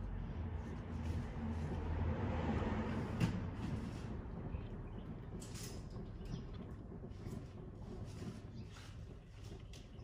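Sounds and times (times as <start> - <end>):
washing machine washing: 0.0 - 10.0.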